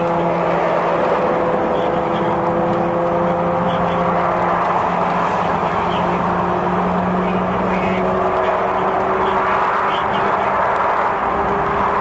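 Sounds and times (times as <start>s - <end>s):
low engine hum: 0.0s - 12.0s
road traffic noise: 0.0s - 12.0s.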